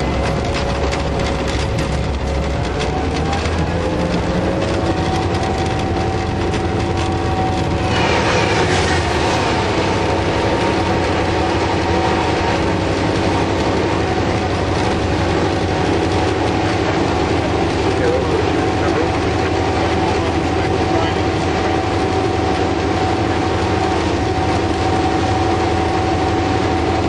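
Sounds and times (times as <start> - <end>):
locomotive engine droning: 0.0 - 27.0
passing train wheel noise: 0.0 - 27.0.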